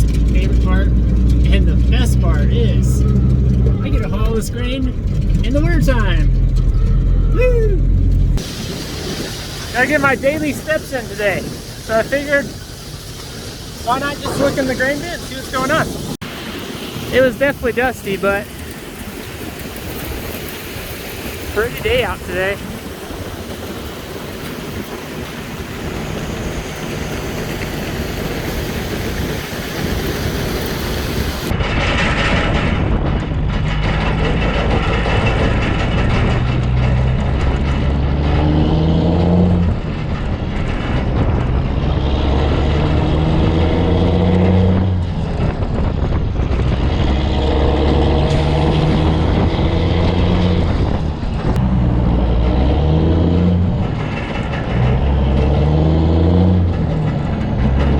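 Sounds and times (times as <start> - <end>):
truck diesel engine shifting gears: 0.0 - 57.9
wind noise: 0.0 - 57.9.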